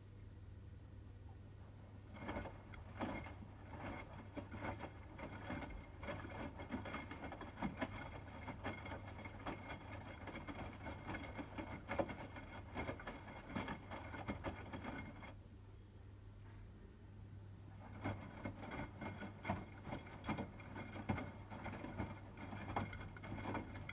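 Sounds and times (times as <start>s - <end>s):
washing machine low hum: 0.0s - 23.9s
water sloshing in washing machine: 1.7s - 15.4s, 17.8s - 23.9s.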